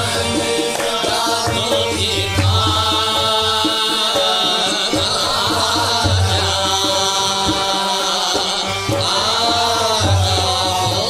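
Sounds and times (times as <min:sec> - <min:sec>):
steady tabla beat: 0:00.0 - 0:11.0
voices singing gliding melody: 0:00.0 - 0:11.0.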